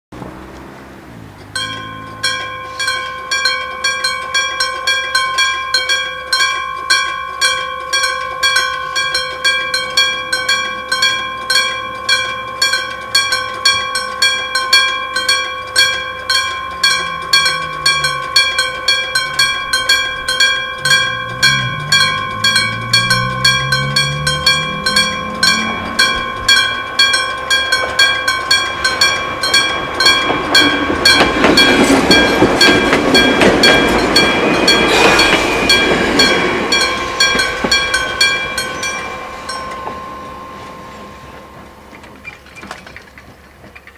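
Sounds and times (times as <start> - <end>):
train passing over crossing: 0.2 - 43.9
level crossing bell ringing: 1.5 - 42.6.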